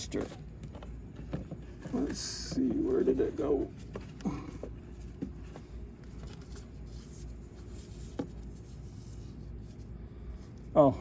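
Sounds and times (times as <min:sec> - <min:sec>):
steady low hum: 0:00.0 - 0:11.0
faint rustling of hands: 0:00.1 - 0:10.7.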